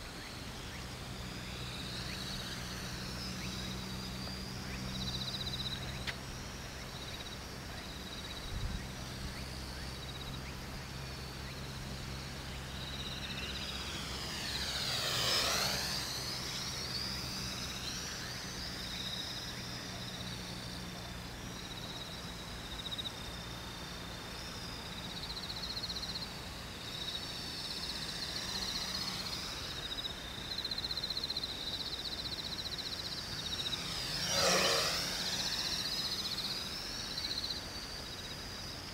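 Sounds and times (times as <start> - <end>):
quadcopter propellers buzzing: 0.0 - 38.9.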